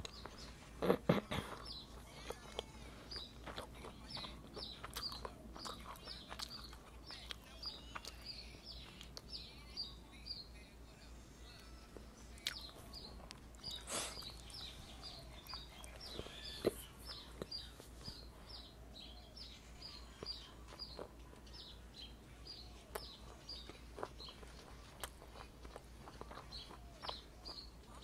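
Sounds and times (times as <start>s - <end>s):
small bird chirping: 0.0s - 10.7s, 11.3s - 28.0s.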